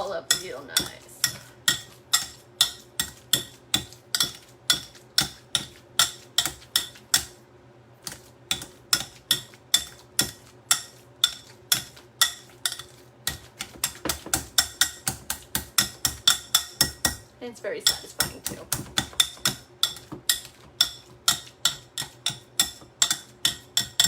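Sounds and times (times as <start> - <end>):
masher clinking on bowl: 0.0 - 7.3, 8.5 - 17.2, 17.8 - 24.0
potato masher mashing avocado: 0.0 - 24.0.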